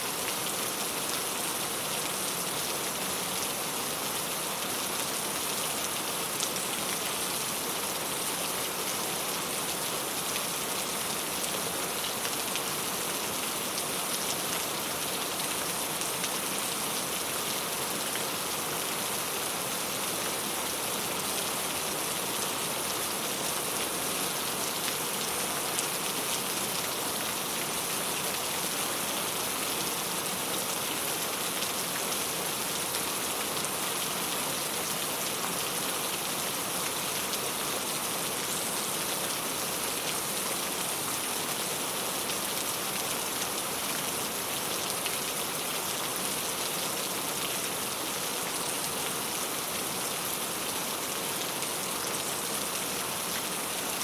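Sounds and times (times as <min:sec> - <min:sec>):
rain on a tile roof: 0:00.0 - 0:54.0.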